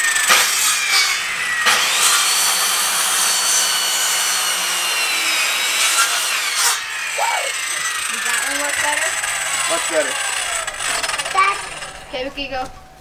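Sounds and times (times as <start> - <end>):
circular saw cutting wood: 0.0 - 12.6.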